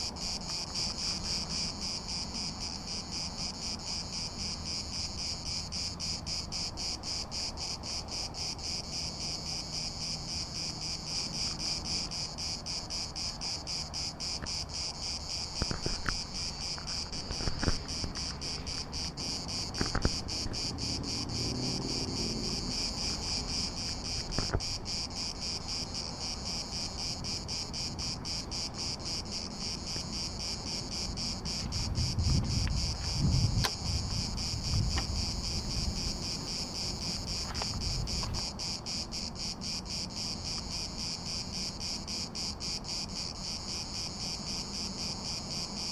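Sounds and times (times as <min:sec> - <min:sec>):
insects chirring: 0:00.0 - 0:45.9.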